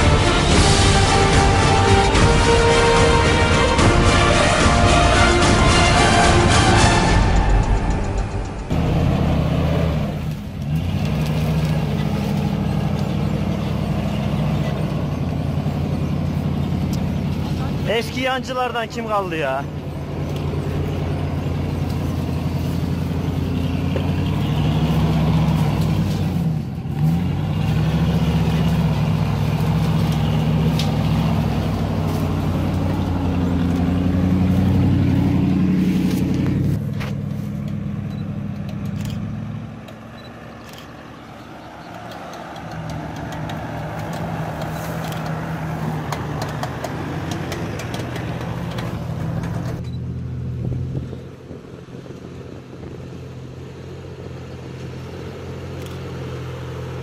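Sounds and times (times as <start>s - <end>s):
off-road vehicle engine under load: 0.0s - 57.0s.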